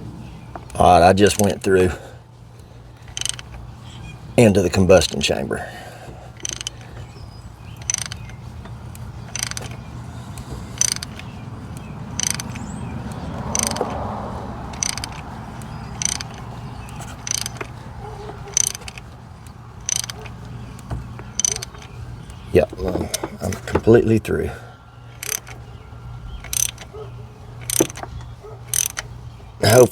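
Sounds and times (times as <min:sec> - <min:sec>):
ratchet clicking: 0:00.5 - 0:01.9, 0:03.0 - 0:05.4, 0:06.2 - 0:24.0, 0:25.1 - 0:29.9.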